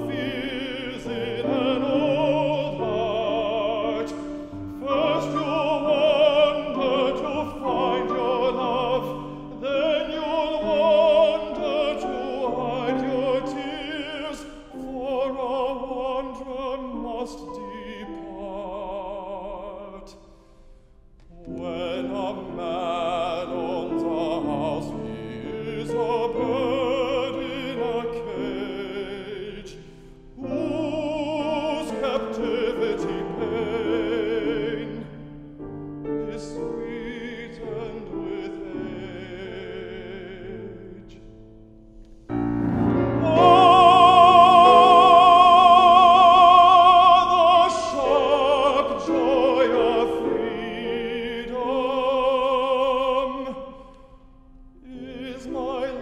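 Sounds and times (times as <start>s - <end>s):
operatic baritone singing: 0.0s - 20.2s, 21.3s - 41.4s, 42.7s - 54.0s, 54.8s - 56.0s
grand piano accompaniment: 0.0s - 56.0s.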